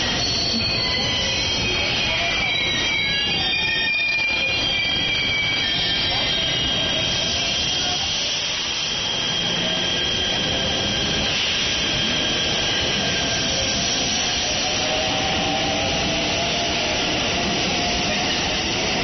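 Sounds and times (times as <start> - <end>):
train rolling noise: 0.0 - 19.0.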